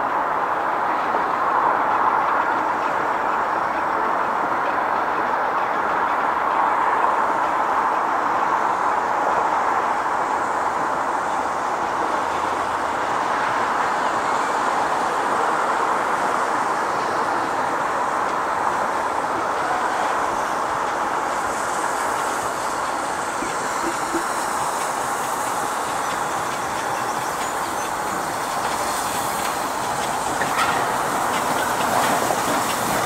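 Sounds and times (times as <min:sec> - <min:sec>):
train running on rails: 0:00.0 - 0:33.0.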